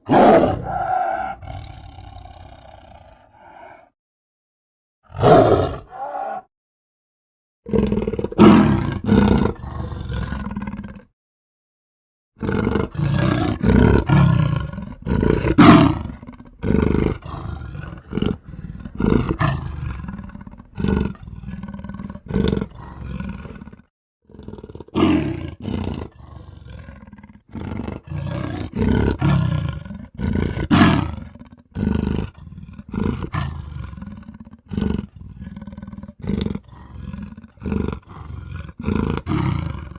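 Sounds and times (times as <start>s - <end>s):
animal roars and growls: 0.0s - 4.0s, 5.0s - 6.5s, 7.6s - 11.1s, 12.4s - 39.9s.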